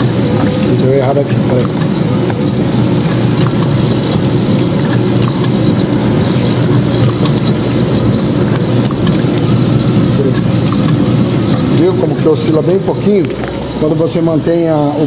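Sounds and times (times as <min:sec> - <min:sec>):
machine motor and conveyor drone: 0:00.0 - 0:15.0.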